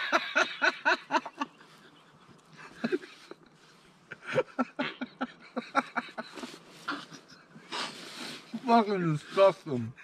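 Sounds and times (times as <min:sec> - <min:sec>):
men laughing wheezily: 0:00.0 - 0:08.7.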